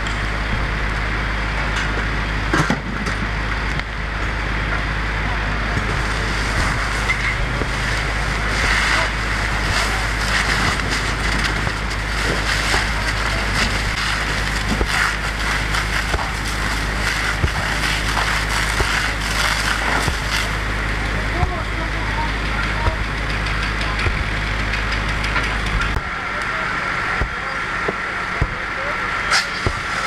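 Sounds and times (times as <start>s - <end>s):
low engine rumble: 0.0s - 30.0s
wreckage fire crackling and popping: 0.0s - 30.0s.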